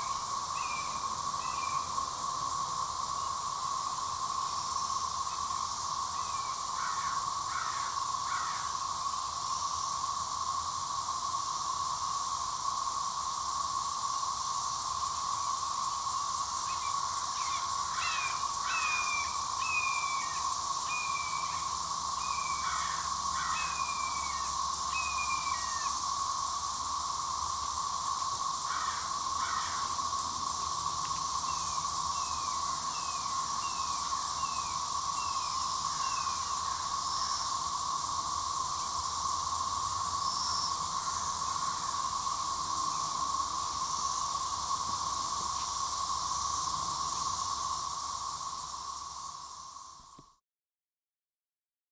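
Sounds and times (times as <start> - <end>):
cicada chorus droning: 0.0 - 50.4.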